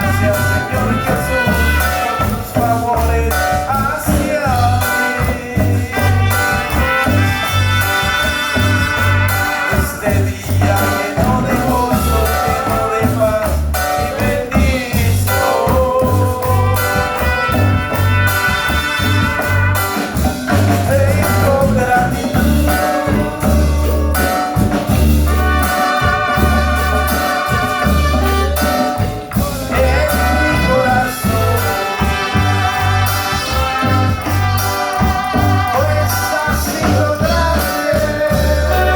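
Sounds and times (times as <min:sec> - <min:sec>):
pulsing bass line: 0:00.0 - 0:38.9
upbeat brass music: 0:00.0 - 0:38.9.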